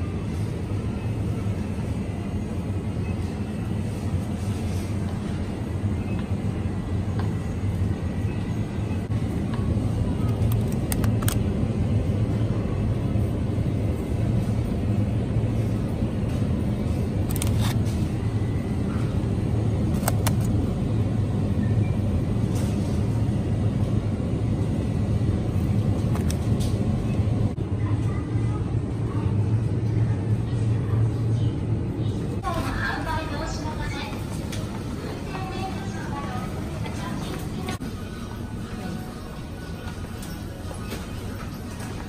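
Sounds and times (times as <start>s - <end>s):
refrigerated display cases humming: 0.0s - 42.0s.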